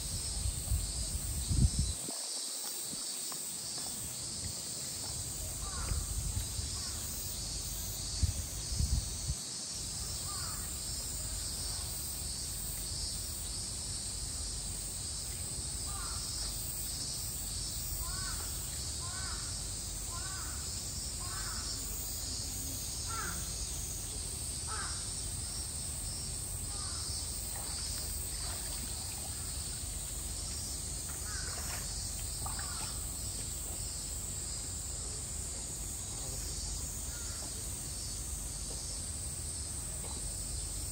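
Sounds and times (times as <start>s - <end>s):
insect drone: 0.0s - 40.9s.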